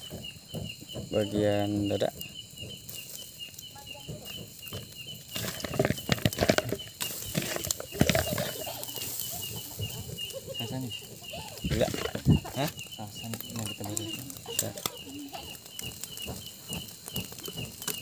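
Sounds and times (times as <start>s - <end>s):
charcoal fire crackling: 0.0s - 18.0s.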